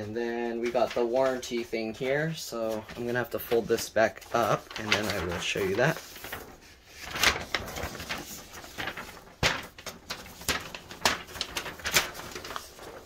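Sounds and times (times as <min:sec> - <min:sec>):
paper rustling and crinkling: 0:00.0 - 0:13.0
sharp paper crackle: 0:00.0 - 0:13.0.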